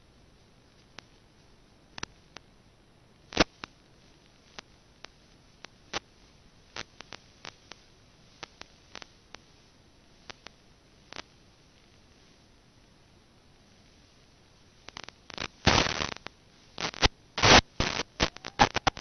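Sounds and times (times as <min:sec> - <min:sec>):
faint steady hiss: 0:00.0 - 0:19.0
static clicks and pops: 0:00.4 - 0:13.0, 0:13.6 - 0:19.0.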